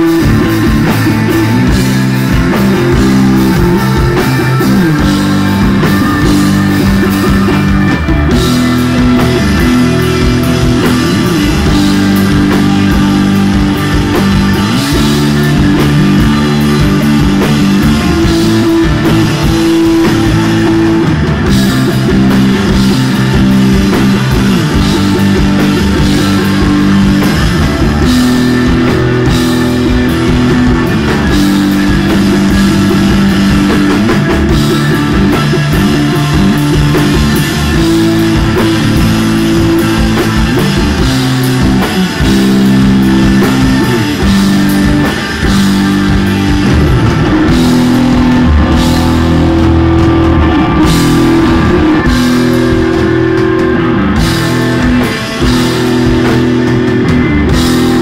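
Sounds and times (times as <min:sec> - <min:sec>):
drum kit: 0:00.0 - 0:58.0
electric guitars sustained low notes: 0:00.0 - 0:58.0.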